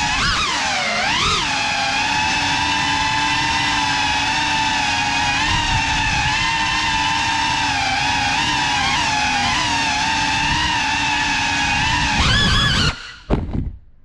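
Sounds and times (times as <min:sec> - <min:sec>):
drone motor whine: 0:00.0 - 0:13.6.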